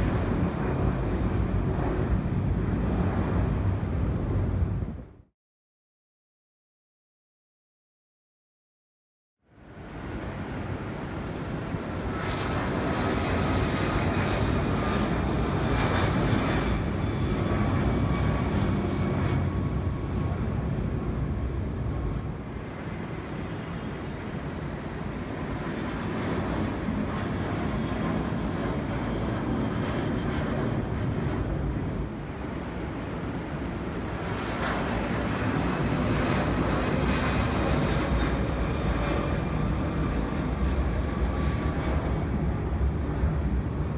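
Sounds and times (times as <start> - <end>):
jet airliner engines rumbling: 0.0 - 5.3, 9.5 - 43.9.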